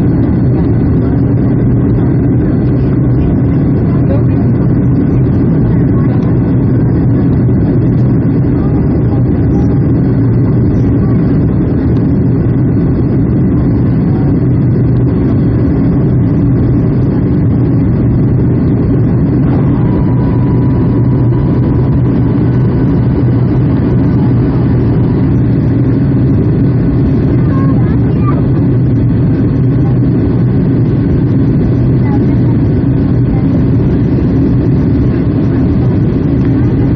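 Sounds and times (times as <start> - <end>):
faint steady whine: 0.0 - 36.9
jet engine cabin noise: 0.0 - 36.9.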